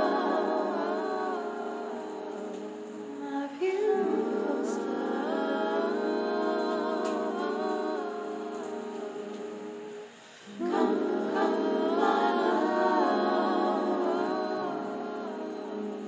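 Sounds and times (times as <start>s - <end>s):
layered humming and singing voices: 0.0s - 16.0s.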